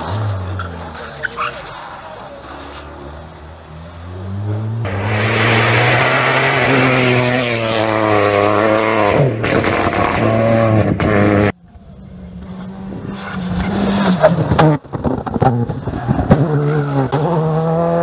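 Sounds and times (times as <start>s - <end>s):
rally car engine revving: 0.0s - 11.6s, 12.2s - 18.0s.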